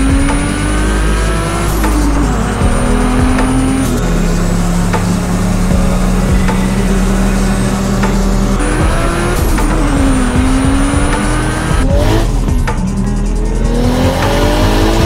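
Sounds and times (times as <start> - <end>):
car engine pulling: 0.0 - 15.0.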